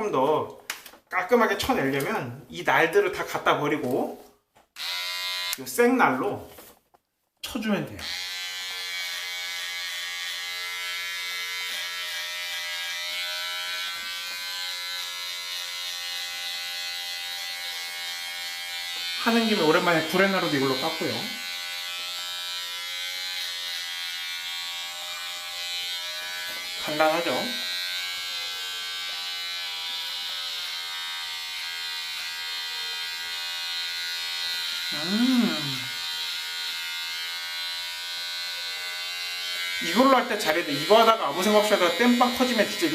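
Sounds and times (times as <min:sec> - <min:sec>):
electric hair clipper buzzing: 0:04.8 - 0:05.7, 0:08.0 - 0:42.9.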